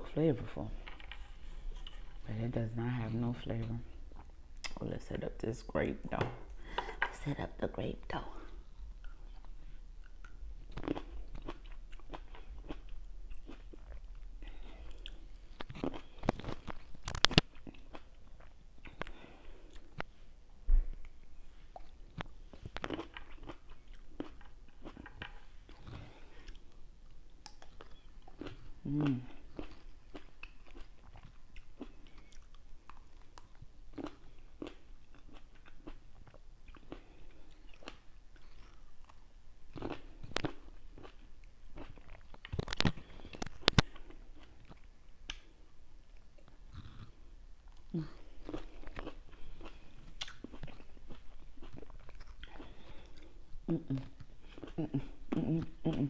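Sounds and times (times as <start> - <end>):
person chewing grapes: 0.6 - 4.8, 8.1 - 56.0.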